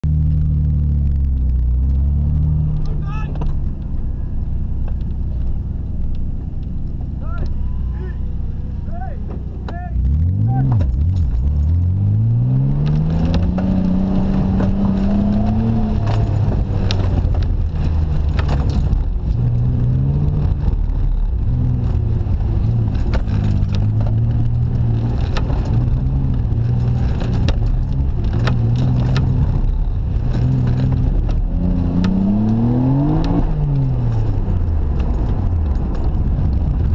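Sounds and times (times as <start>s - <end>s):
car engine from inside cabin: 0.0s - 36.9s.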